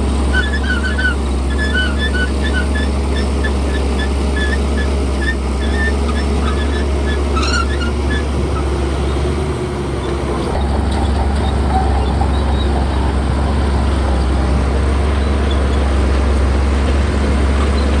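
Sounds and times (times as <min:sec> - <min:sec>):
bulldozer diesel engine rumbling: 0:00.0 - 0:18.0.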